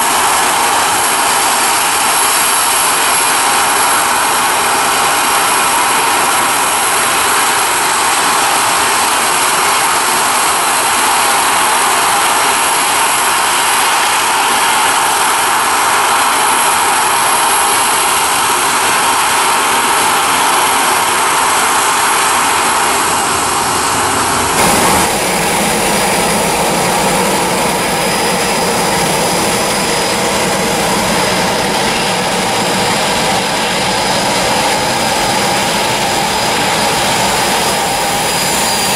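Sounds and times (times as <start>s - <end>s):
jet airliner taking off: 0.0s - 38.9s
jet engine idling while taxiing: 0.0s - 38.9s.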